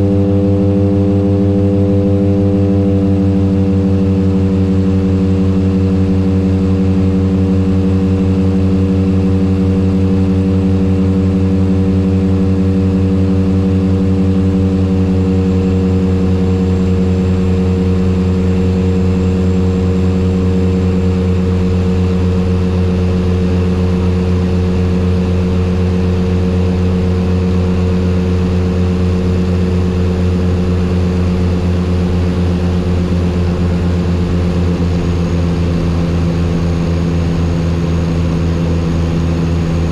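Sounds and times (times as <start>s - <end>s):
turboprop aircraft engines droning: 0.0s - 39.9s.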